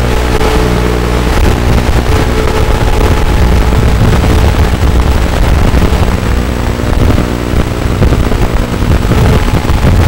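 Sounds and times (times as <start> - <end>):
drone motors whirring: 0.0 - 8.2.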